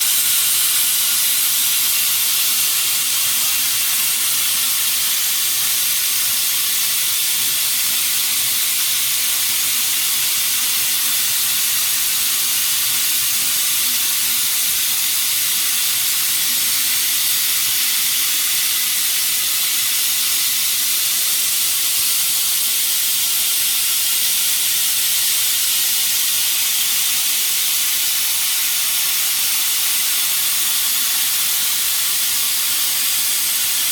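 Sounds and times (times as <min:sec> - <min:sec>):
plasma torch hissing: 0:00.0 - 0:33.9.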